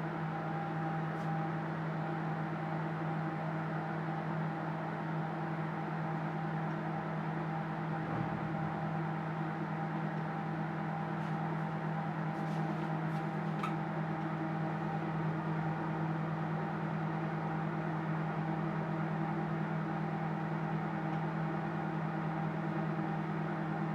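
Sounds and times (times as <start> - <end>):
microwave oven humming: 0.0 - 23.9.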